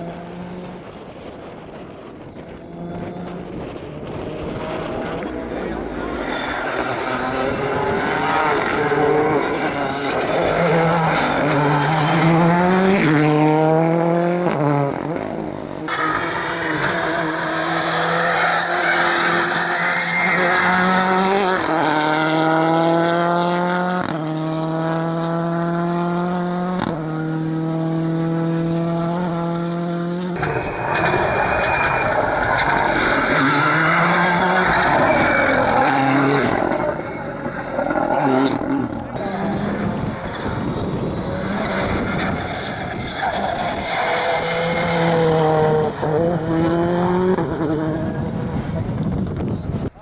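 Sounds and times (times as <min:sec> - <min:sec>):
rally car engines accelerating: 0:00.0 - 0:49.9.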